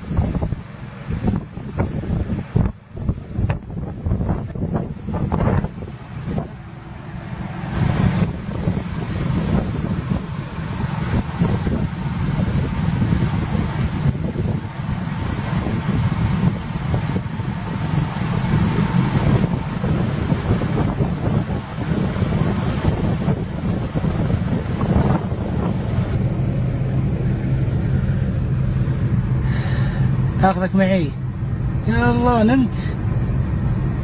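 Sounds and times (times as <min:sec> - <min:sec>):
road and engine rumble: 0:00.0 - 0:34.0
wind noise: 0:00.0 - 0:34.0.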